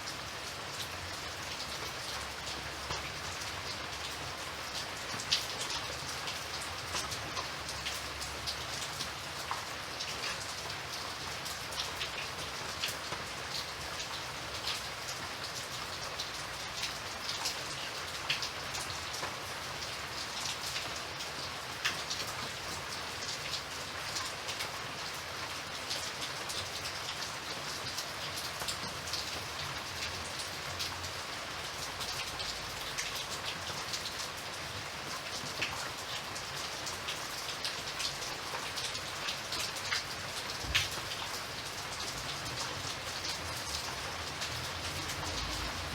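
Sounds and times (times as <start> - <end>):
rain falling on a surface: 0.0 - 45.9.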